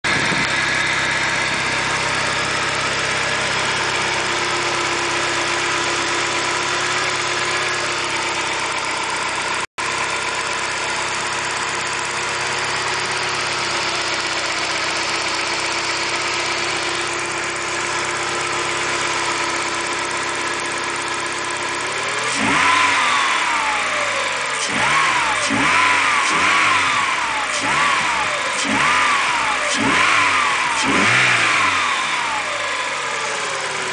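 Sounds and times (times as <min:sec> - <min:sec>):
car engine idling: 0:00.1 - 0:33.9
car engine revving: 0:00.1 - 0:33.9.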